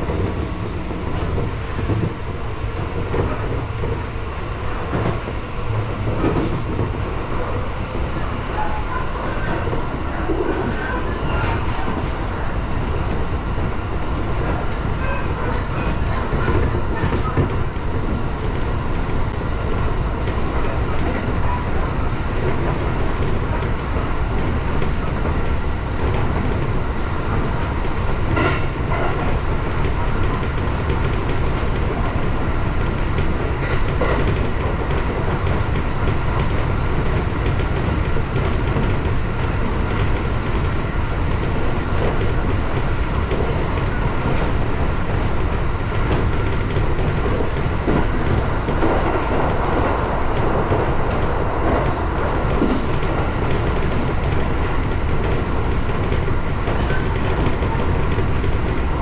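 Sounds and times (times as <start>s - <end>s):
clacks over rail joints: 0.0s - 12.2s, 12.9s - 59.0s
train wheels rumbling on rail: 0.0s - 59.0s.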